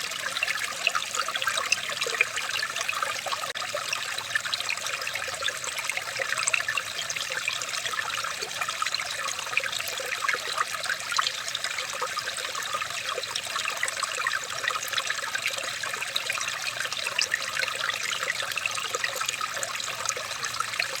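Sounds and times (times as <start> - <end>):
water trickling in a stream: 0.0 - 21.0.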